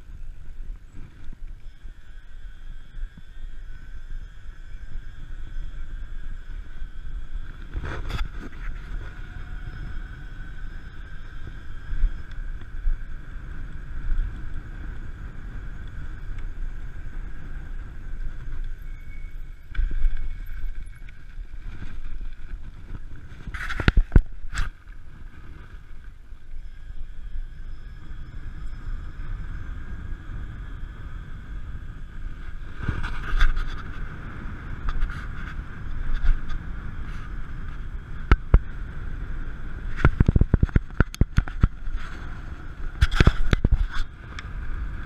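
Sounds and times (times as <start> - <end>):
electric bicycle motor whining: 0.0 - 45.0
wind rumble on microphone: 0.0 - 45.0.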